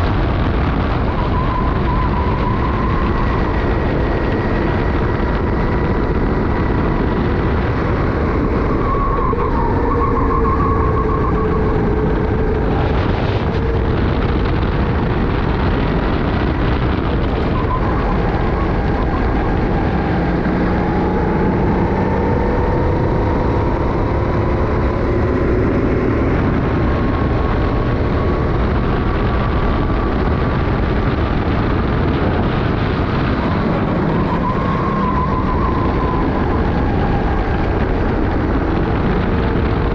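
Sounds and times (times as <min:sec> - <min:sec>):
wind rushing on camera: 0:00.0 - 0:39.9
kart engine revving: 0:01.3 - 0:39.9.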